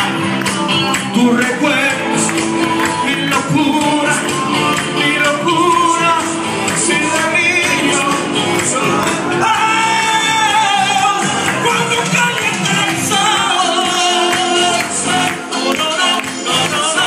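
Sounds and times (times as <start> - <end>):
amplified pop music with beat: 0.0 - 17.0
person singing into microphone: 0.0 - 17.0.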